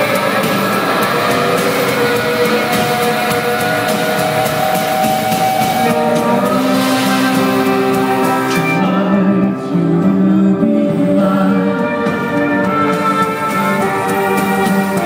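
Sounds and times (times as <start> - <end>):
droning guitar chords: 0.0 - 15.0.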